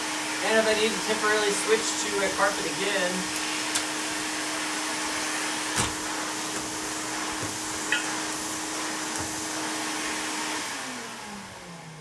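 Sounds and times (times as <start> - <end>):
vacuum cleaner running: 0.0 - 12.0
vacuum motor winding down: 0.0 - 12.0.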